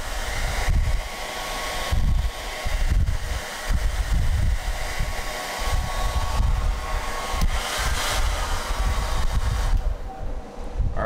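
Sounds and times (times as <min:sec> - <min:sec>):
hair dryer blowing: 0:00.0 - 0:10.8.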